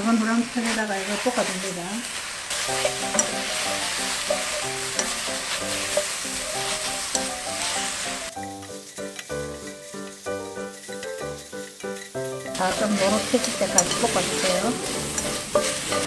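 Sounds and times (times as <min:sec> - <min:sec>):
fish skin sizzling in pan: 0:00.0 - 0:16.0
bouncy background music: 0:02.7 - 0:16.0.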